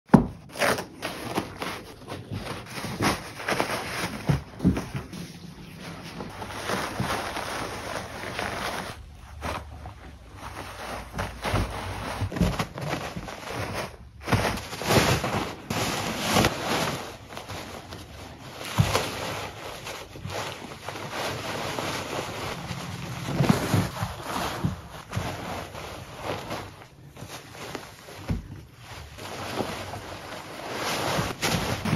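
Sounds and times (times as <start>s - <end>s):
toilet paper rustling: 0.1s - 31.9s
kittens scuffling: 0.6s - 31.9s.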